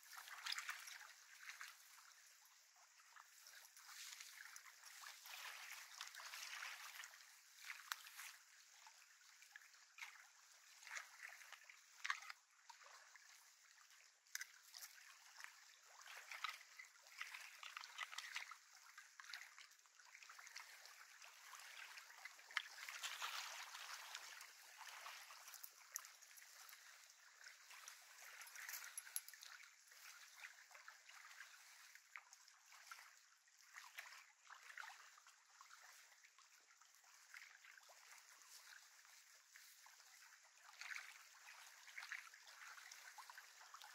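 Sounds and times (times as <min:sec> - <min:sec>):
lake water lapping at shore: 0:00.0 - 0:43.9.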